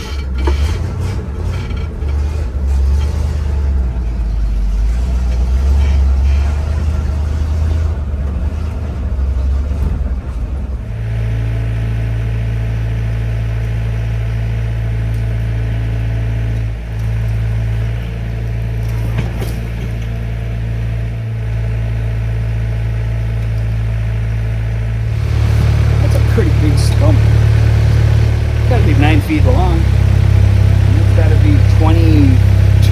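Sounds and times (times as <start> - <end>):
truck engine running: 0.0 - 32.9.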